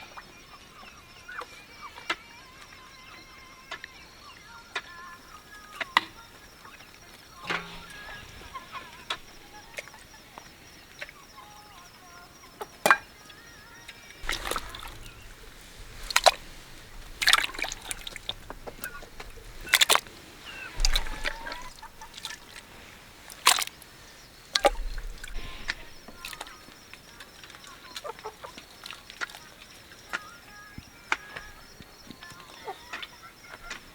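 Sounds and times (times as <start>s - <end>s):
water sloshing and trickling: 5.2s - 33.9s.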